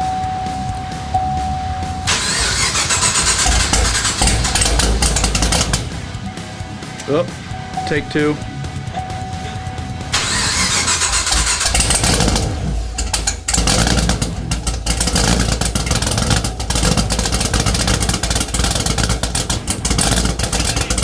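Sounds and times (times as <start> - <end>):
car engine starting and running rough: 0.0 - 21.0.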